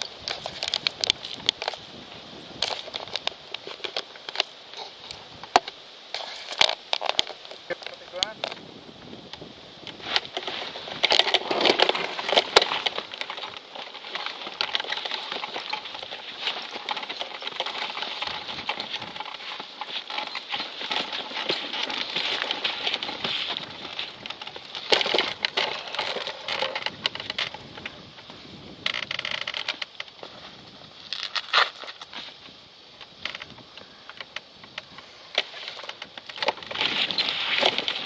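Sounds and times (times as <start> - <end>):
wind hiss on microphone: 0.0 - 13.8, 18.2 - 38.0.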